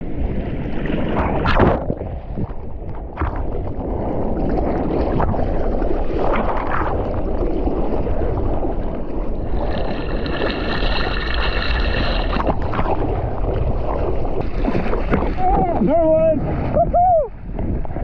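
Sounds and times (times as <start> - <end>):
boat wind and water noise: 0.0 - 18.0.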